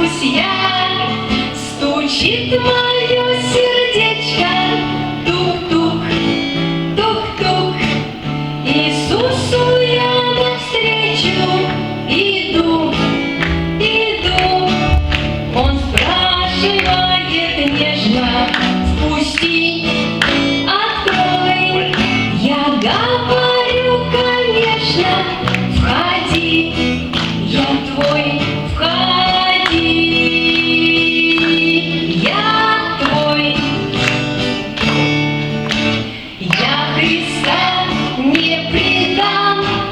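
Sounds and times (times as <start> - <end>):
children singing along: 0.0 - 34.1, 36.1 - 39.9
woman singing: 0.0 - 34.9, 36.4 - 39.9
instrumental backing music: 0.0 - 39.9.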